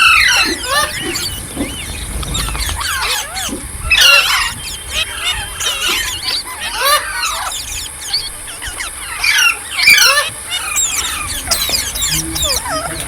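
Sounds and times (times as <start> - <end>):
parakeets chirping and squawking: 0.0 - 13.0.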